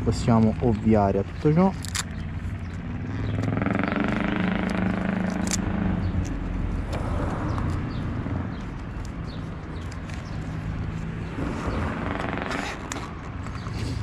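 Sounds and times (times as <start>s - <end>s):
low engine hum: 0.0s - 14.0s
vehicle passing: 2.0s - 14.0s.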